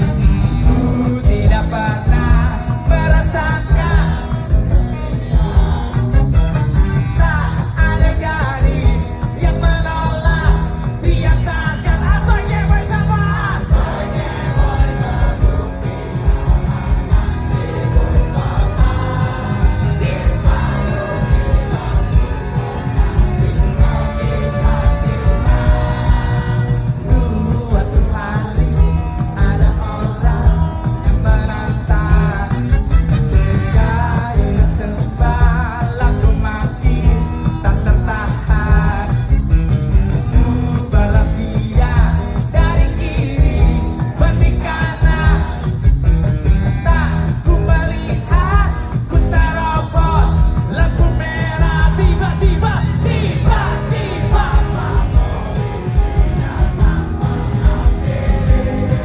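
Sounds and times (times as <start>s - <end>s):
person singing: 0.0s - 39.3s, 46.8s - 59.0s
live rock and roll band: 0.0s - 59.0s.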